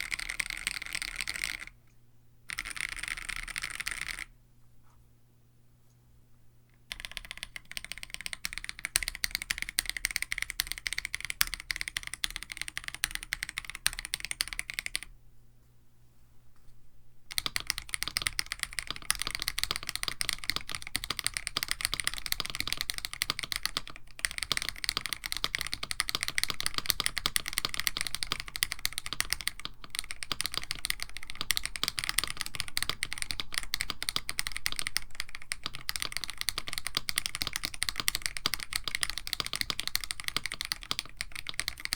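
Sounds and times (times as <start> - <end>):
typing on mechanical keyboard: 0.0 - 1.8, 2.5 - 4.3, 6.8 - 15.1, 17.3 - 41.9.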